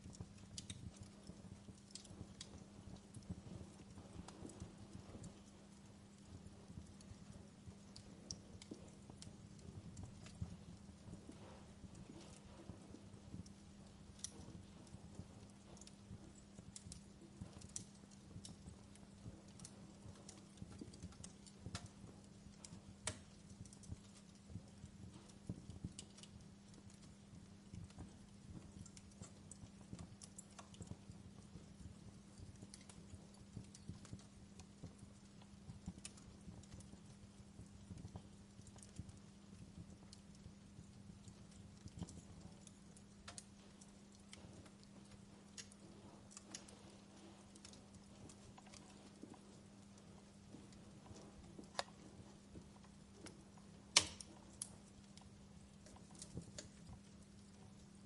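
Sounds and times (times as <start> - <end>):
faint low hum: 0.0 - 58.0
soft hiss: 0.0 - 58.0
wood fire crackling: 0.0 - 58.0.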